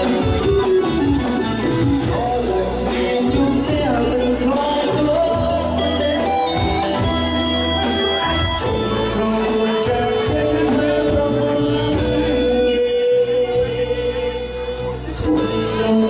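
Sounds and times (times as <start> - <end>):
pop song singing over a band: 0.0 - 16.0.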